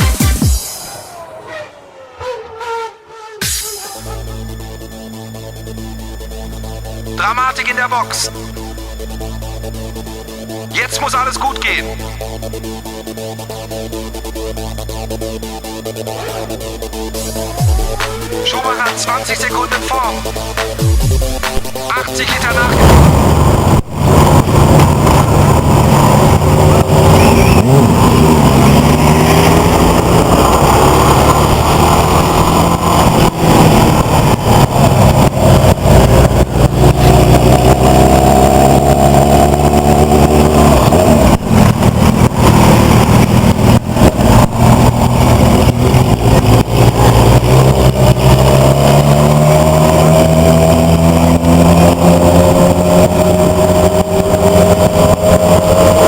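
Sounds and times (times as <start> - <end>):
engines revving hard: 0.0 - 56.0.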